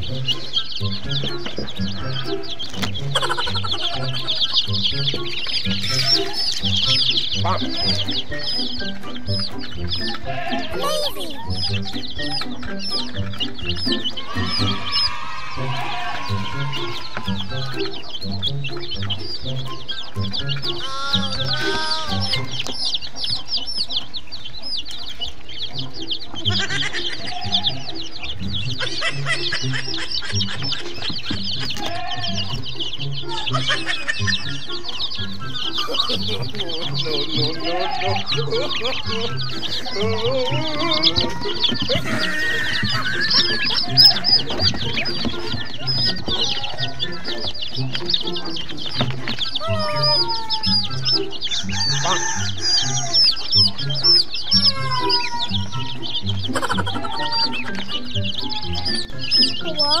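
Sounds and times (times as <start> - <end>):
background music with low beat: 0.0 - 60.0
chicks and ducklings peeping: 0.0 - 60.0.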